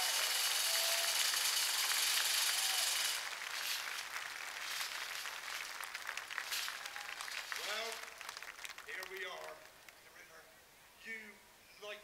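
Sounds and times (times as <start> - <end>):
crowd clapping and cheering: 0.0 - 10.0.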